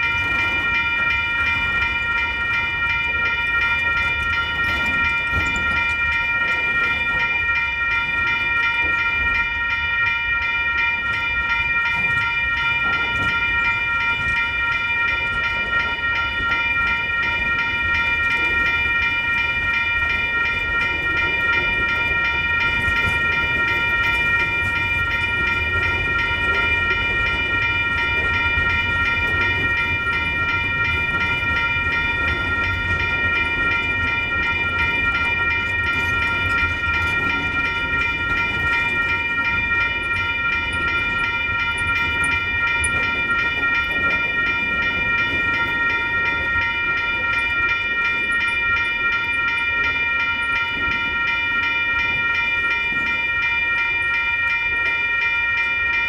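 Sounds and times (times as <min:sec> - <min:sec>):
crossing bell ringing: 0:00.0 - 0:56.0
rumble of train wheels on rail: 0:00.0 - 0:56.0.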